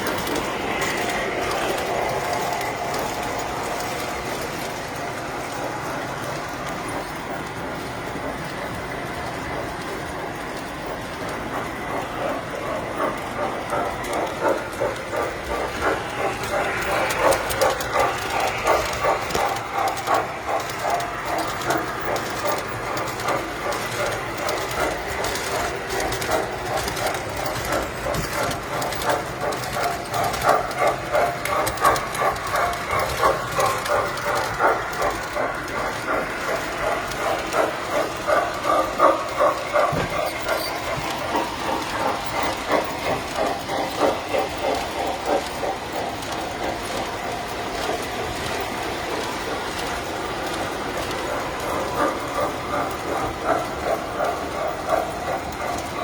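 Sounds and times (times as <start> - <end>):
toy trains clattering on metal track: 0.0 - 56.0.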